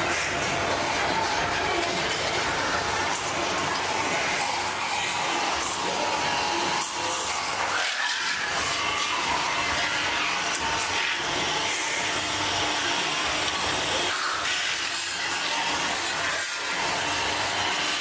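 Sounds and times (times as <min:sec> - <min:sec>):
metal spinning lathe whirring: 0:00.0 - 0:18.0.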